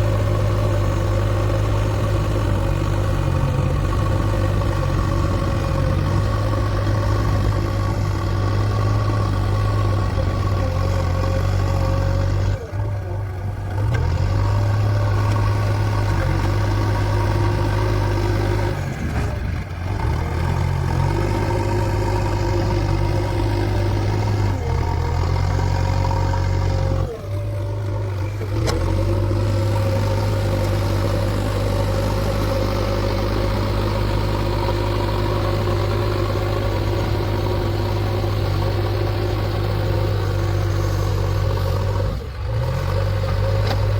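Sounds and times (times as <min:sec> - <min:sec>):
backhoe loader diesel engine: 0:00.0 - 0:43.9.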